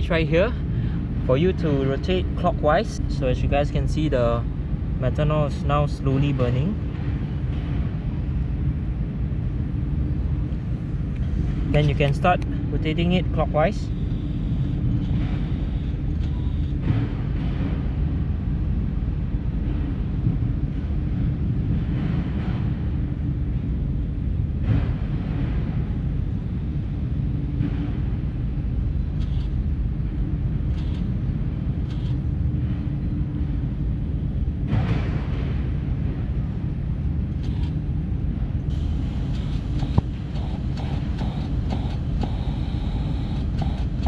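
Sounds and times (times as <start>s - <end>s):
wind rumble on microphone: 0.0s - 44.0s.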